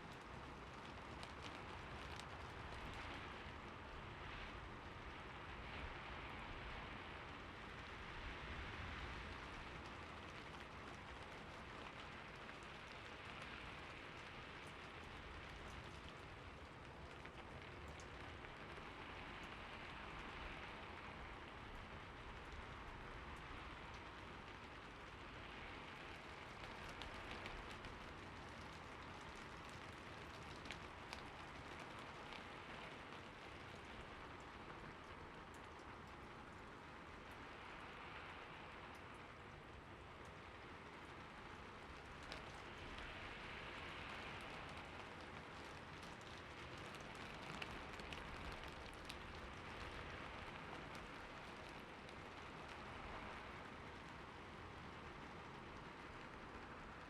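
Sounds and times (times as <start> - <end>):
raindrops ticking: 0.0 - 57.0
steady rain falling: 0.0 - 57.0.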